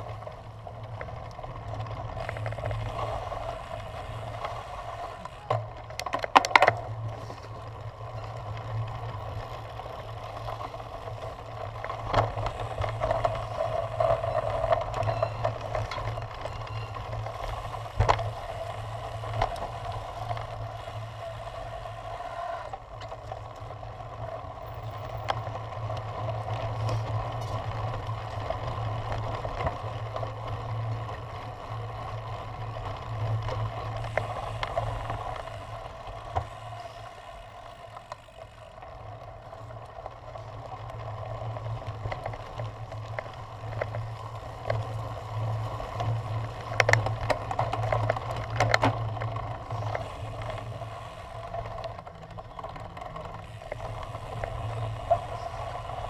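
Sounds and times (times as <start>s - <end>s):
bike rattling: 0.0s - 56.0s
bike tyres rumbling on dirt: 0.0s - 56.0s.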